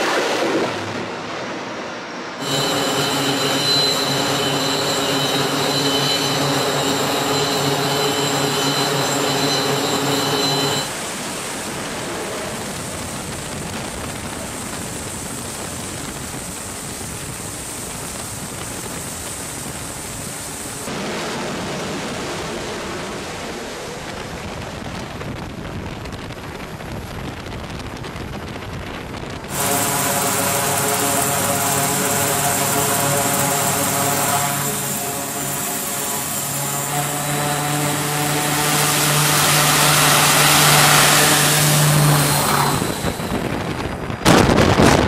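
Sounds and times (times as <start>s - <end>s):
jet engines roaring: 0.0s - 26.7s, 29.2s - 45.0s
propeller drone: 0.0s - 44.3s
wind: 0.0s - 45.0s.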